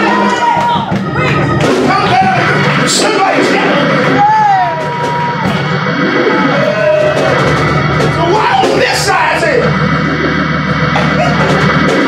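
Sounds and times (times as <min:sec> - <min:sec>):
gospel church music: 0:00.0 - 0:12.0
steady low bass: 0:00.0 - 0:12.0.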